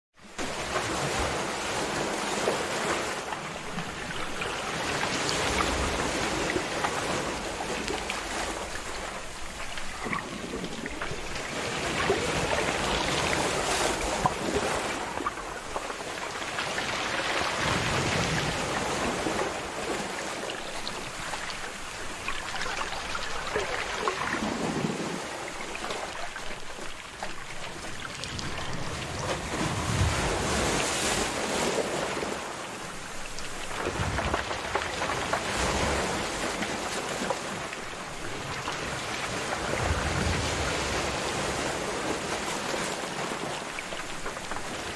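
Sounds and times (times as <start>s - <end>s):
surf washing over rocks: 0.2s - 44.9s.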